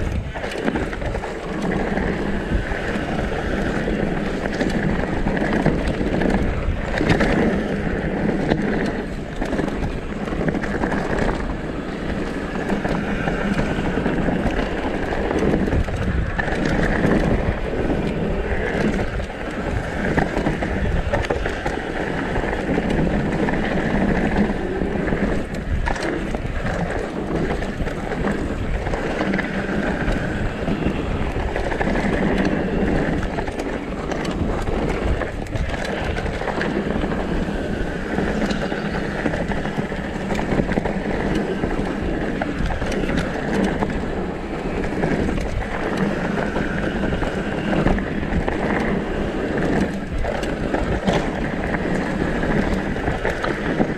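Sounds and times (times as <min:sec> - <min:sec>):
bike tyres on dirt trail: 0:00.0 - 0:53.9
wind noise on microphone: 0:00.0 - 0:53.9.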